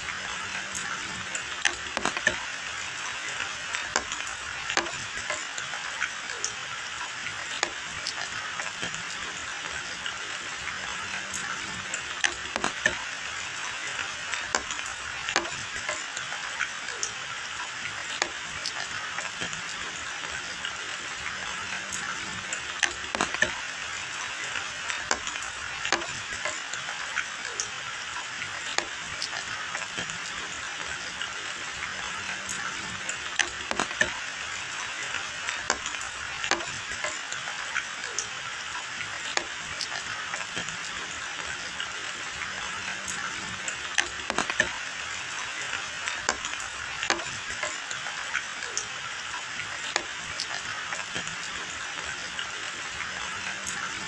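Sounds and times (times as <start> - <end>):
rain on foliage and wet road: 0.0 - 54.0.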